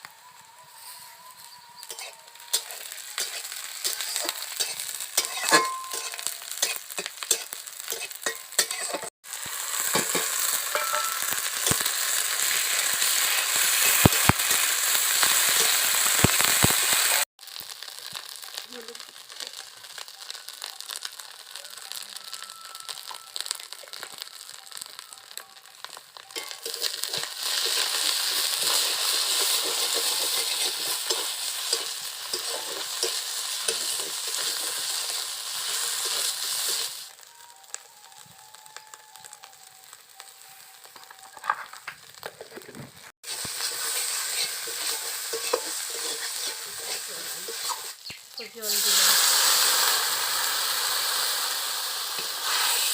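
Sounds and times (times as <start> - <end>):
food sizzling in hot oil: 1.1 - 52.9.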